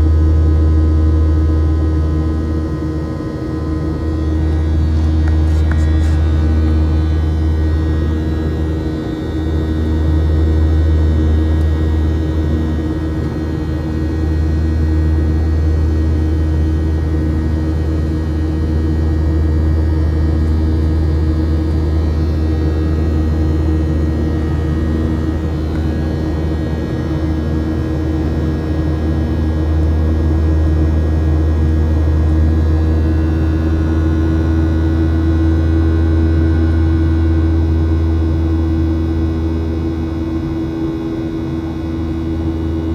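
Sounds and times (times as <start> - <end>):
jet cabin drone: 0.0 - 42.9.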